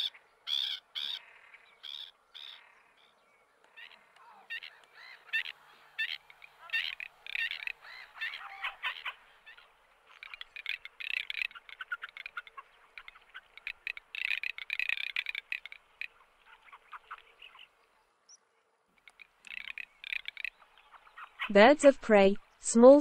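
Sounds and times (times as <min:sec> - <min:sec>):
ducks crackling calls: 0:00.0 - 0:18.2, 0:18.9 - 0:22.6.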